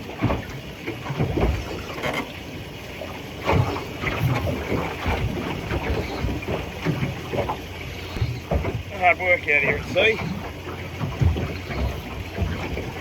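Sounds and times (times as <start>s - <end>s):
water slapping boat: 0.0s - 13.0s.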